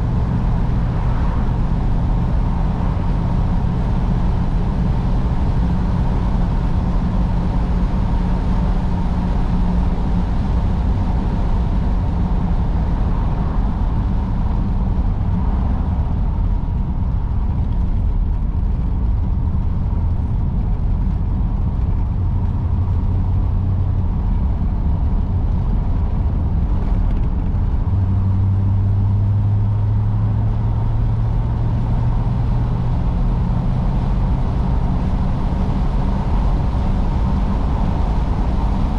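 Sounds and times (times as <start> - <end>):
car engine driving: 0.0 - 38.9
road noise: 0.0 - 38.9.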